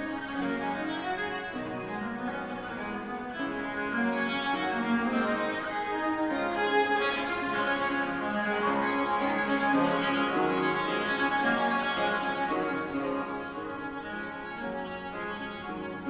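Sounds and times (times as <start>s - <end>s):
bowed viola da gamba: 0.0s - 16.0s
theorbo accompaniment: 0.0s - 16.0s.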